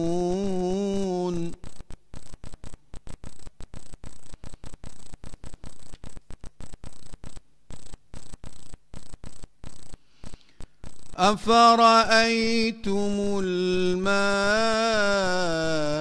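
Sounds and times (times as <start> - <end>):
crackling static from sound system: 0.0 - 16.0.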